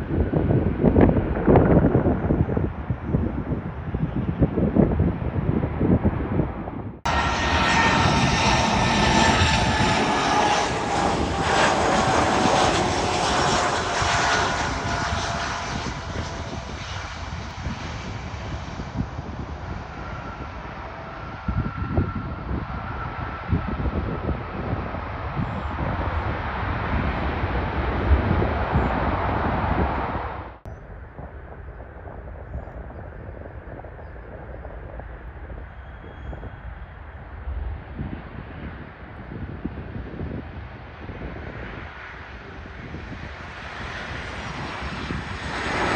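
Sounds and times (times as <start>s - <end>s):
airliner engines roaring: 0.0s - 45.9s
wind rumble on microphone: 0.0s - 45.9s.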